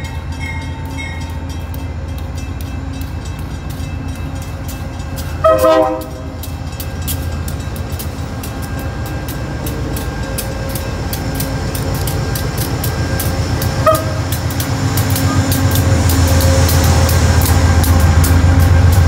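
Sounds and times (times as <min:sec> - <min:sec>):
diesel locomotive engine rumbling: 0:00.0 - 0:19.0
wheels clicking on rails: 0:00.0 - 0:19.0.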